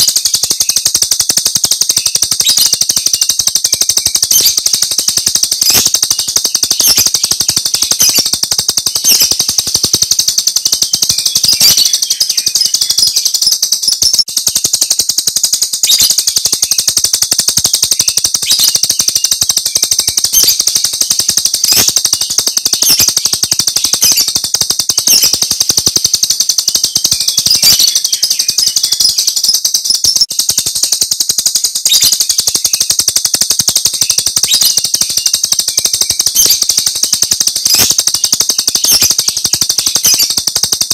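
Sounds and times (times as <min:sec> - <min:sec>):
starling rapid chatter: 0:00.0 - 0:40.9.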